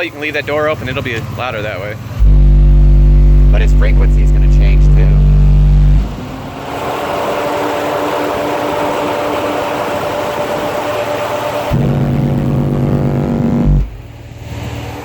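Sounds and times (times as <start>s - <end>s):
car engine running: 0.0s - 15.0s
subwoofer low bass tone: 2.1s - 14.5s.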